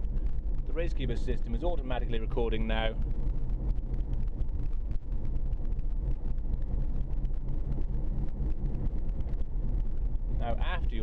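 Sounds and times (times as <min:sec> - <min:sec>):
car engine running: 0:00.0 - 0:11.0
road and wind noise: 0:00.0 - 0:11.0.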